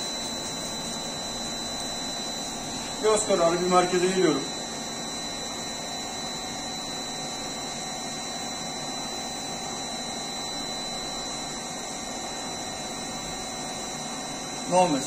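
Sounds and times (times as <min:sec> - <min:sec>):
lathe running with high whine: 0:00.0 - 0:15.0.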